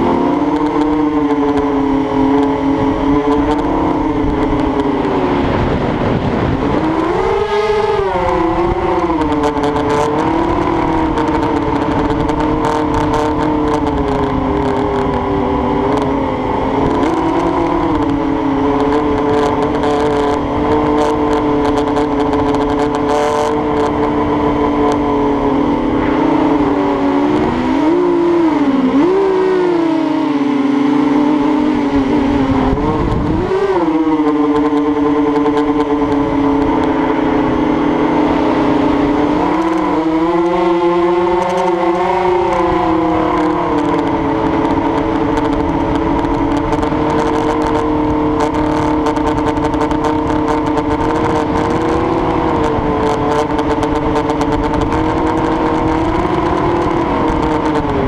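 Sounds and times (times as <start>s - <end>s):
propeller motors droning: 0.0s - 58.0s
wind rushing over microphone: 0.0s - 58.0s.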